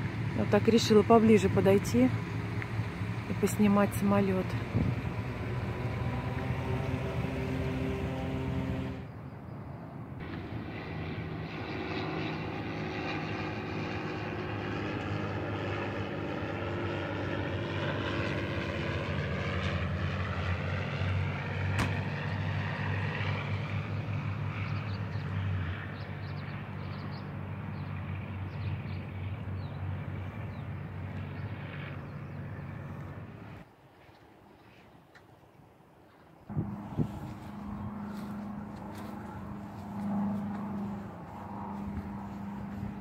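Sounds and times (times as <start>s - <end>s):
propeller plane flying overhead: 0.0s - 34.0s, 35.7s - 43.0s.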